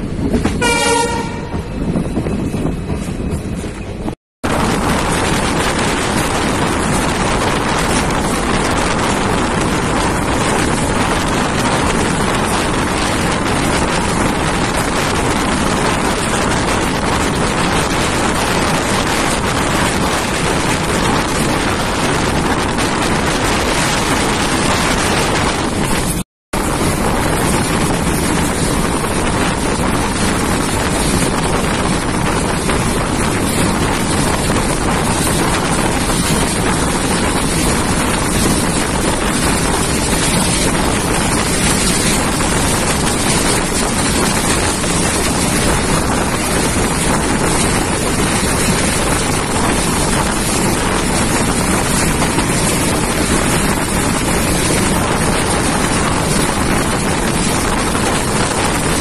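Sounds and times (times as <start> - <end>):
train running at speed: 0.0 - 59.0
wind on microphone: 0.0 - 59.0.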